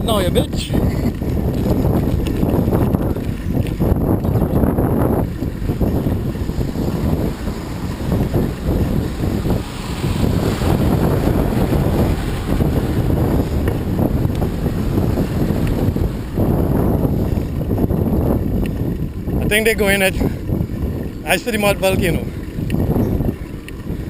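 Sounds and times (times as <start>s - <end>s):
wind buffeting microphone: 0.0s - 24.0s
vehicle running noise: 1.0s - 24.0s.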